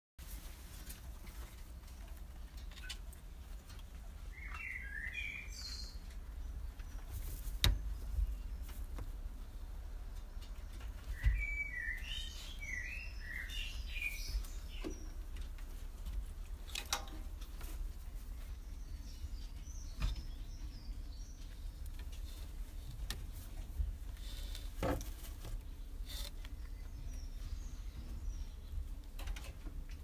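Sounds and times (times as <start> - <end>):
small birds chirping: 1.6 - 30.0.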